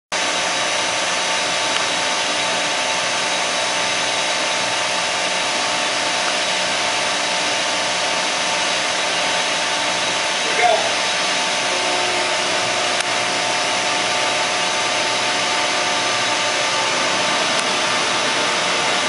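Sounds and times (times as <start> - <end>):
milling machine whirring: 0.2 - 19.0.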